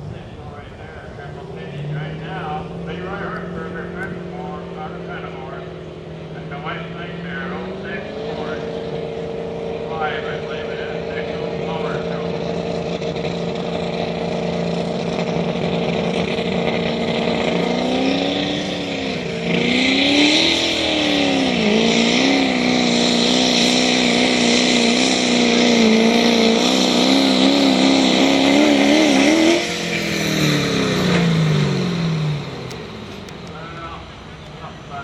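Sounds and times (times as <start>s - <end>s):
pulling truck engine revving: 0.0s - 35.0s.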